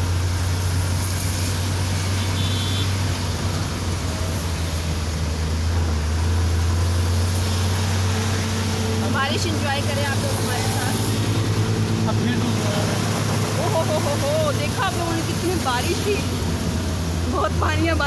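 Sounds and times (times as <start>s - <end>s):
car engine and road drone: 0.0s - 18.0s
tyres hissing on wet road: 0.0s - 18.0s.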